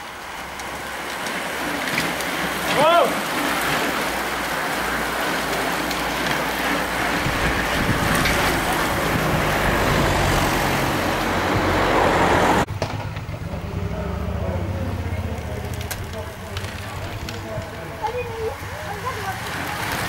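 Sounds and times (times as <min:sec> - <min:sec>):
bicycles passing with tyre hiss: 0:00.0 - 0:20.0.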